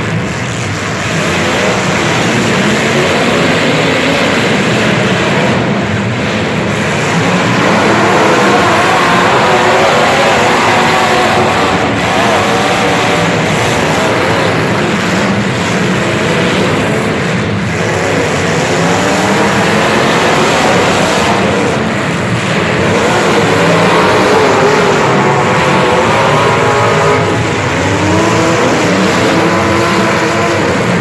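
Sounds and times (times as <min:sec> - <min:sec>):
vehicle engines revving: 0:00.0 - 0:31.0.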